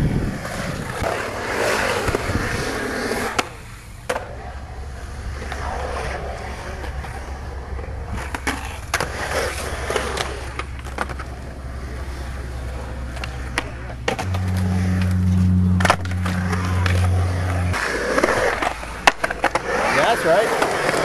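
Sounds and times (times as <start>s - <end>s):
skateboard wheels rolling on concrete: 0.0s - 21.0s
skateboard clacks: 0.4s - 21.0s.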